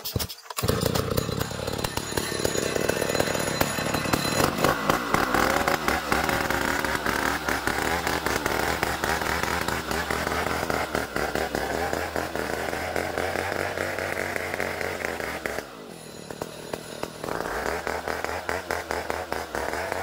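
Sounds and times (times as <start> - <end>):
chainsaw mill cutting wood: 0.0 - 20.0.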